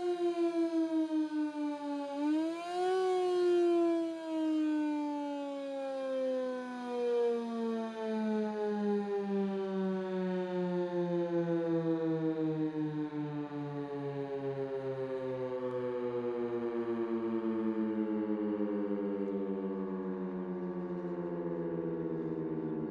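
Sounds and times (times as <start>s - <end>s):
warning siren winding down: 0.0s - 22.9s.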